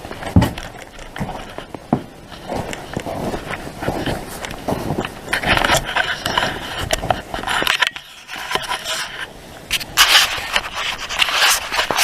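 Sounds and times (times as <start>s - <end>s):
scraping and rustling: 0.0s - 12.0s.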